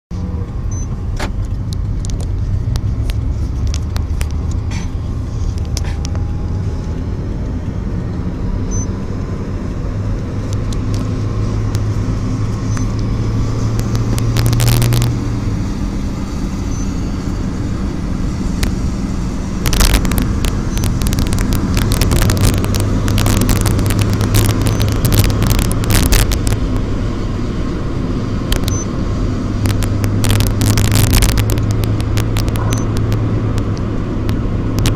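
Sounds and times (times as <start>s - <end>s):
vehicle engine and road rumble: 0.1s - 34.9s
sharp clicks and crackles: 0.4s - 17.0s, 18.3s - 27.1s, 28.4s - 34.9s.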